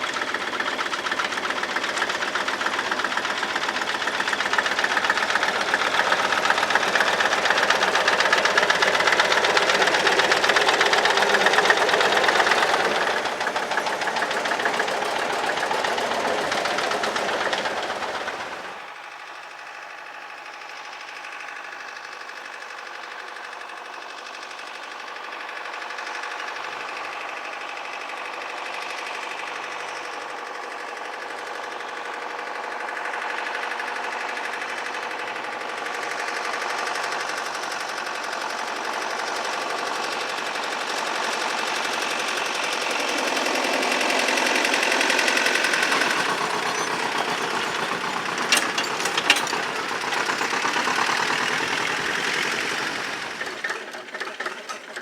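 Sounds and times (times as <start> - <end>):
tractor diesel engine knocking: 0.0 - 55.0.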